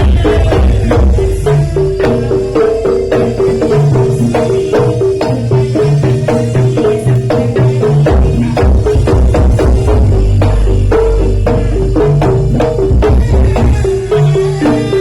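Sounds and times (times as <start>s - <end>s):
drums: 0.0s - 15.0s
gamelan music: 0.0s - 15.0s.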